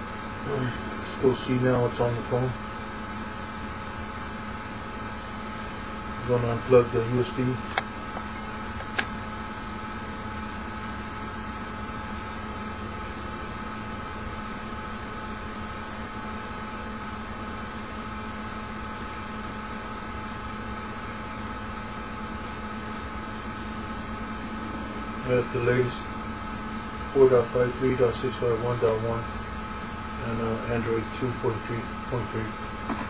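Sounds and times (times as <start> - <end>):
room hum with tones: 0.0 - 33.0.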